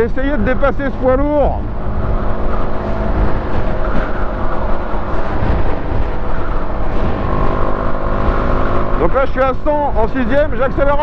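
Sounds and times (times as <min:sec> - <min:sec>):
motorcycle engine cruising: 0:00.0 - 0:11.0
wind noise on microphone: 0:00.0 - 0:11.0.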